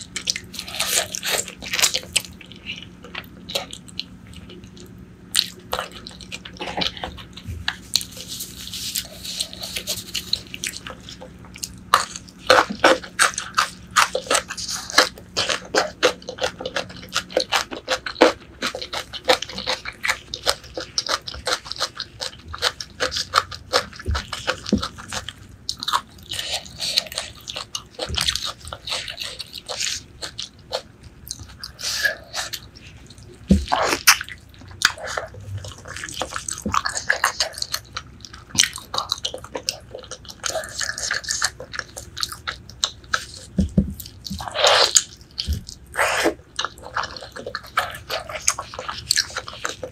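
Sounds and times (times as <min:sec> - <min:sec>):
wet chewing mouth clicks: 0:00.0 - 0:49.9.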